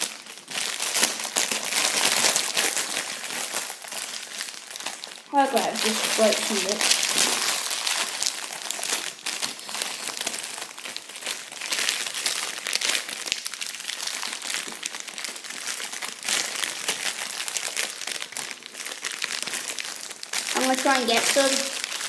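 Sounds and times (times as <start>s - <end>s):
plastic wrapper crinkling: 0.0s - 22.0s.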